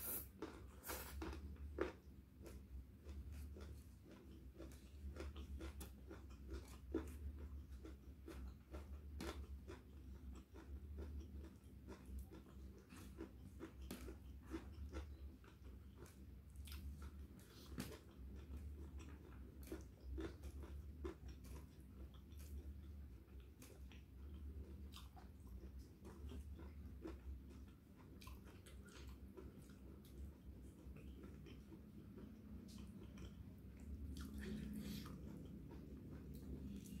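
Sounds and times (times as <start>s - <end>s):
steady low hum: 0.0s - 37.0s
chewing and mouth clicks: 0.1s - 37.0s.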